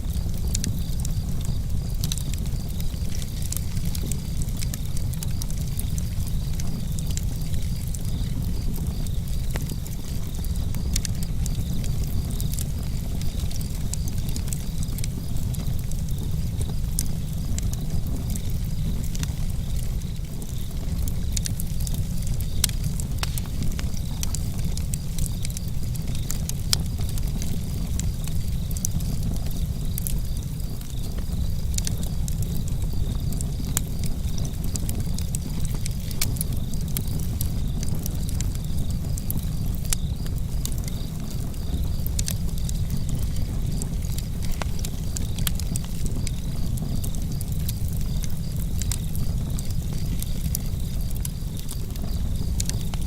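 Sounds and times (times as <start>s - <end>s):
campfire crackling and popping: 0.0s - 53.0s
low fire rumble: 0.0s - 53.0s.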